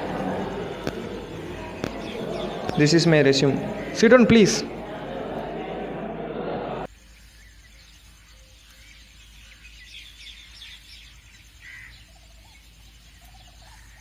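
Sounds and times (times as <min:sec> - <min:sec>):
small birds chirping: 0:00.0 - 0:04.4, 0:06.9 - 0:14.0.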